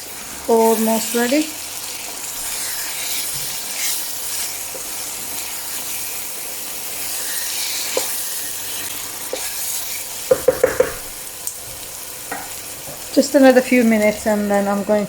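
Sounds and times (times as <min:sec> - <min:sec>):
curry sizzling in oil: 0:00.0 - 0:15.0.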